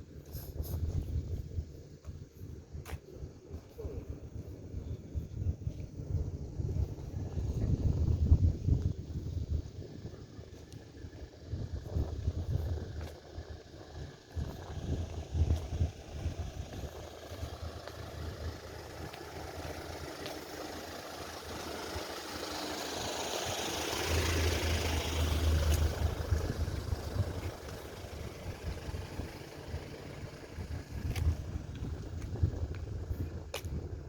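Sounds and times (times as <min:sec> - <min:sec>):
steady low rumble: 0:00.0 - 0:34.0
engine passing by: 0:03.5 - 0:34.0.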